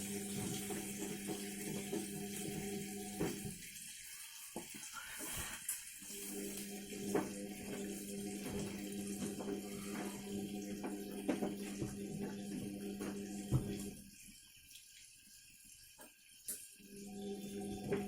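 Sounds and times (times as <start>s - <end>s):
washing machine filling with water: 0.0s - 18.0s.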